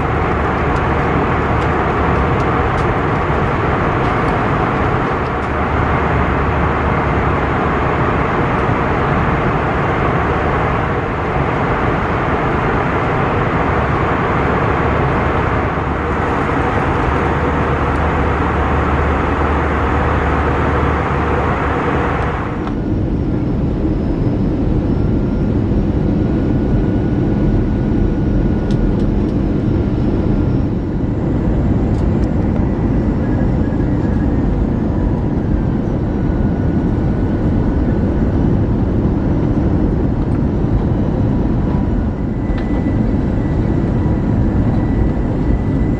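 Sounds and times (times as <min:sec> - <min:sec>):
faint steady whine: 0:00.0 - 0:45.9
jet cabin engine and airflow noise: 0:00.0 - 0:45.9.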